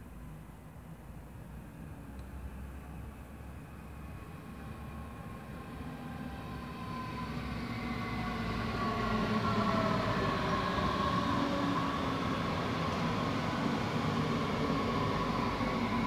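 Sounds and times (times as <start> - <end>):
electric train whine: 2.8 - 16.0.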